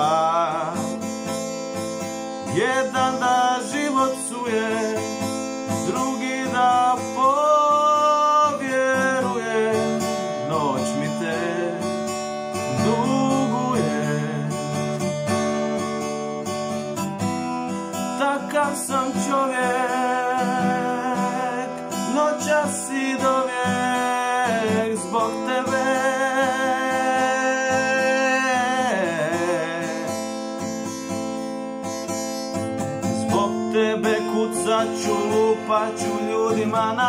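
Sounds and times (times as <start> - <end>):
man singing: 0.0 - 1.1, 2.4 - 15.5, 18.1 - 30.9, 33.0 - 37.0
acoustic guitar strumming: 0.0 - 37.0.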